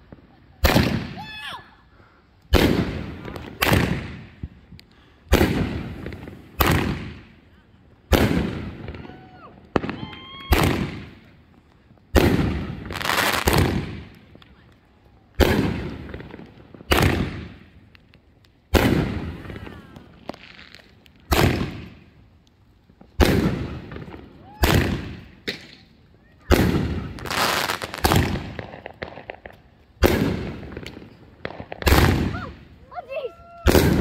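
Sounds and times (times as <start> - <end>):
fireworks bangs echoing: 0.0 - 1.5, 2.4 - 7.4, 8.1 - 14.6, 15.4 - 18.0, 18.6 - 22.3, 22.9 - 34.0.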